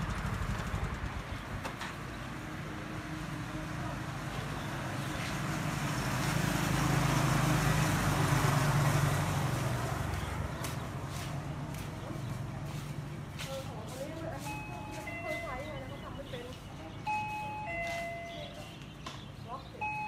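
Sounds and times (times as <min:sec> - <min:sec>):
vehicle passing on road: 0:00.0 - 0:20.0.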